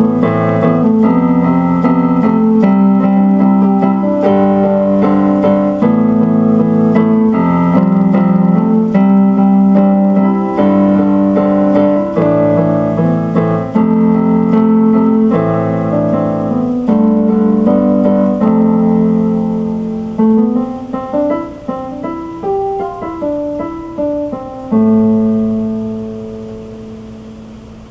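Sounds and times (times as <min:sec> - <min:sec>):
piano chords: 0:00.0 - 0:27.9.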